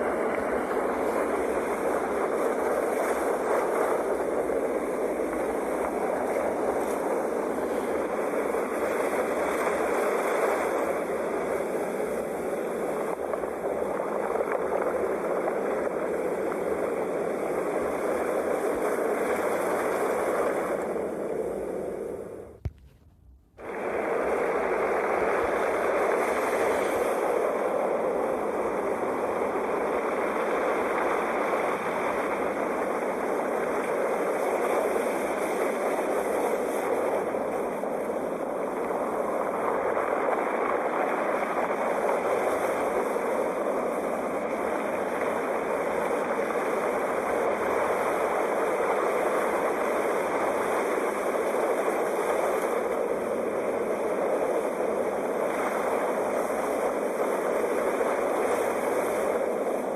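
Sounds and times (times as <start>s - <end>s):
sea waves washing: 0.0s - 59.9s.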